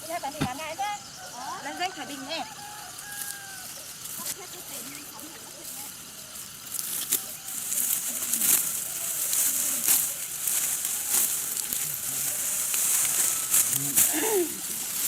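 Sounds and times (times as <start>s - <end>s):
dry plant stalks crunching: 2.6s - 15.0s.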